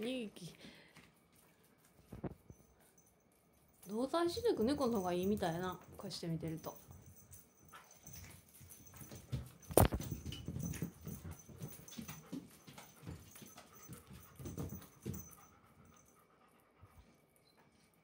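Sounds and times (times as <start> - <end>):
paws thumping and pattering: 1.0 - 16.2.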